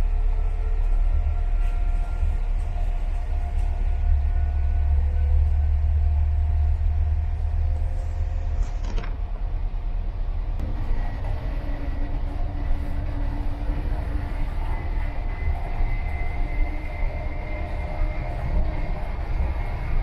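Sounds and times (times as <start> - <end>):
faint whining tones: 0.0 - 20.0
train wheels rumbling on track: 0.0 - 20.0.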